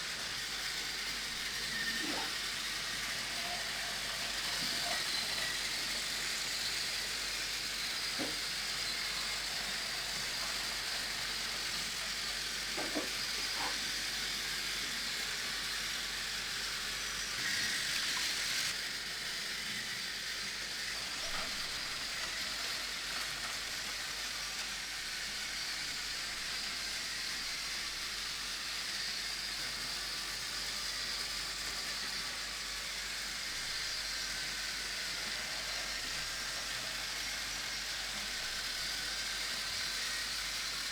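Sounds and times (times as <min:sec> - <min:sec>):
toy train whirring on plastic track: 0:00.0 - 0:40.9.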